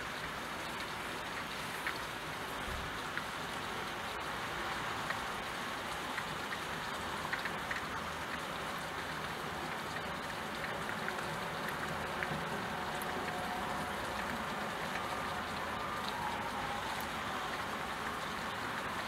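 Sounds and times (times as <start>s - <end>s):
raindrop ticks: 0.0s - 19.0s
steady rain hissing: 0.0s - 19.0s.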